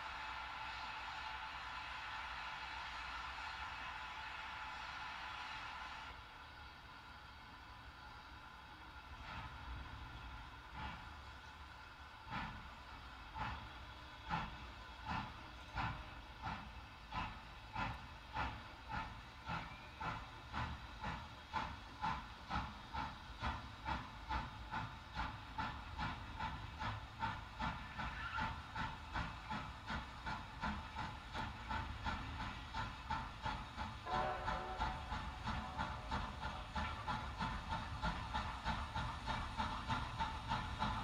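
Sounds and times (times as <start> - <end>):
steam locomotive chuffing over speakers: 0.0 - 41.0.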